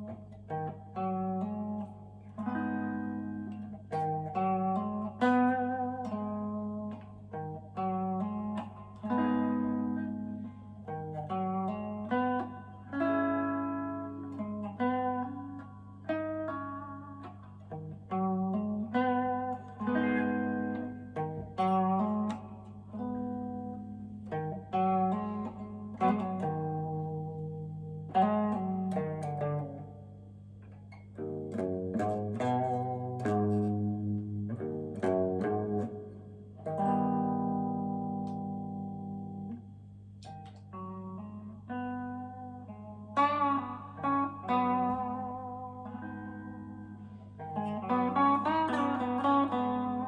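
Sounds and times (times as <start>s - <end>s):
clean electric guitar chords: 0.0s - 50.0s.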